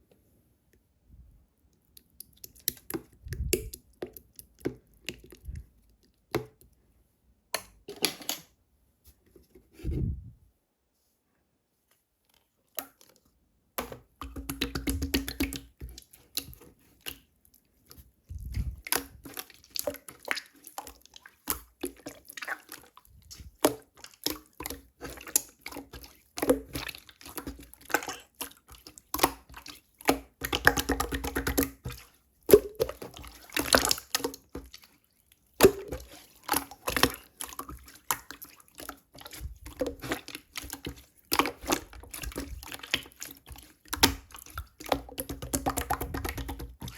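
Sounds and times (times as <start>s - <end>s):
slime squelching by hand: 1.6s - 6.8s, 12.2s - 46.9s.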